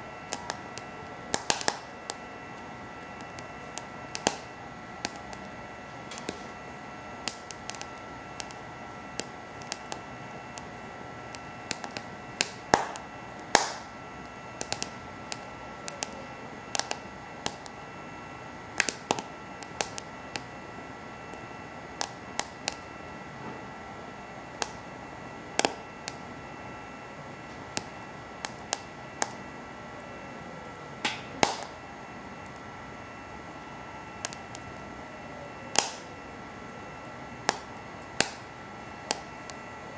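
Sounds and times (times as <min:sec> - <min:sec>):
steady hum: 0:00.0 - 0:39.9
wood fire crackling: 0:00.0 - 0:39.9.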